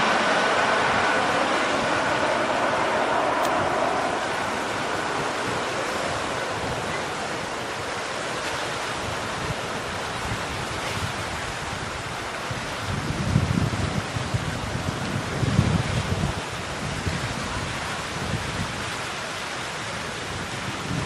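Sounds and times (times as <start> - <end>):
jet airliner rushing overhead: 0.0 - 21.0
wind buffeting microphone: 0.0 - 21.0.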